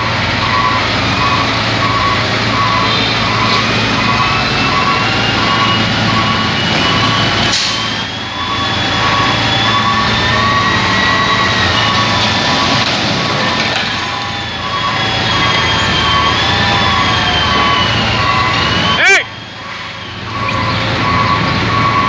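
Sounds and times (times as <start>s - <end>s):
diesel engine running: 0.0s - 22.0s
truck backup alarm beeping: 0.0s - 22.0s.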